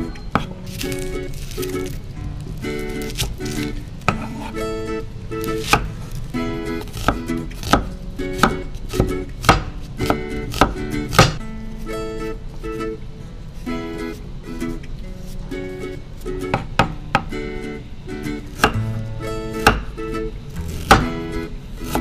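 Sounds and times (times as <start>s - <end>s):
ukulele music: 0.0s - 22.0s.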